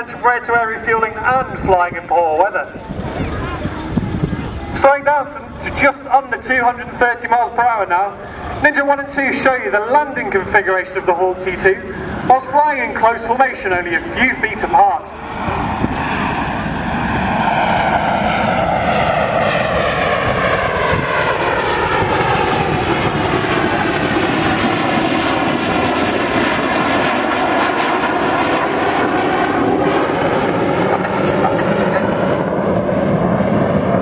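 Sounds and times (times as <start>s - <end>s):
jets flying past roaring: 0.0s - 34.0s.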